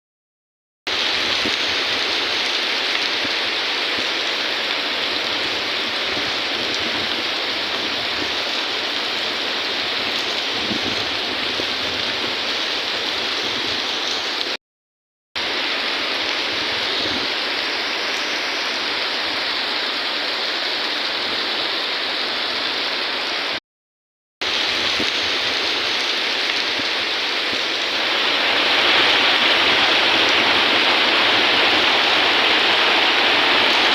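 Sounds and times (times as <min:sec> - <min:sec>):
steady rain falling: 0:00.9 - 0:14.6, 0:15.4 - 0:23.6, 0:24.4 - 0:33.9.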